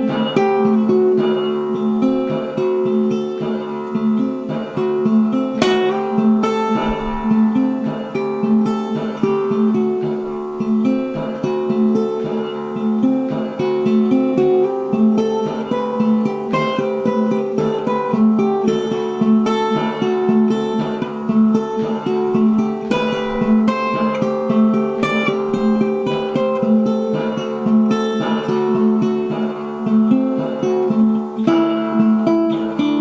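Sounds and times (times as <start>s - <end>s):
acoustic guitar plucked and strummed: 0.0s - 33.0s.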